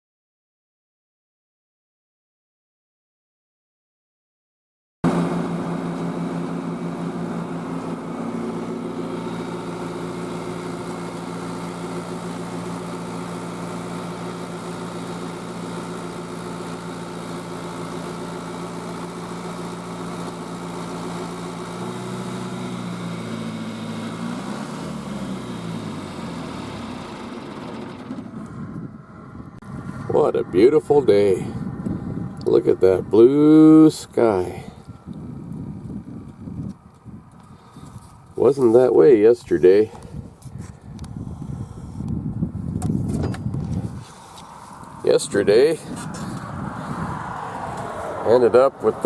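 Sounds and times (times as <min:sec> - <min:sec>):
vehicle engine humming: 0:05.0 - 0:49.0.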